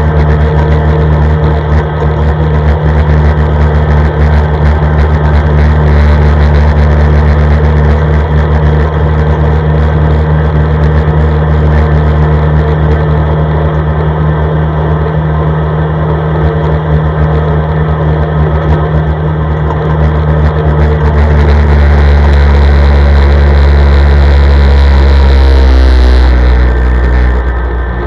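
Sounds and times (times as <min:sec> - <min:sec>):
atv engine drone: 0:00.0 - 0:28.0.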